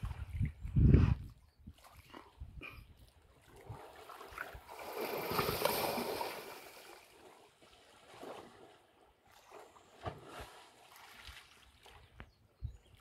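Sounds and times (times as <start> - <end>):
elephant wading through water: 1.7 - 12.2.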